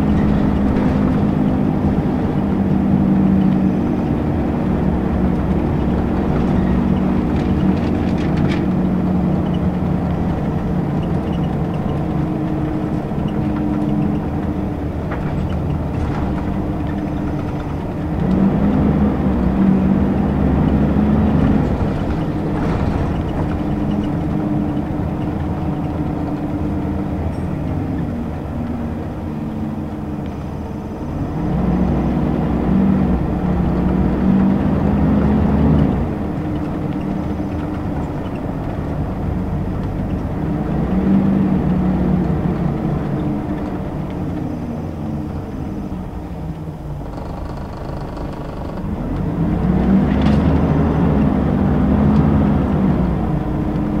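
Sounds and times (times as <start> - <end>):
bus diesel engine: 0.0 - 54.0.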